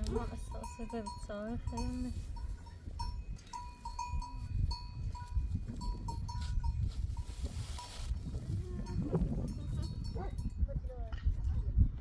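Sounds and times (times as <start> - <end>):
livestock bells clinking: 0.0 - 8.0, 8.7 - 10.8.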